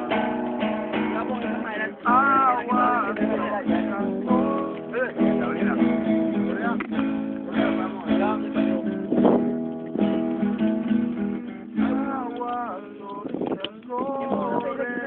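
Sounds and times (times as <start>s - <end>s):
voices: 0.0s - 10.0s, 11.8s - 15.0s
acoustic guitar strumming chords: 0.0s - 15.0s.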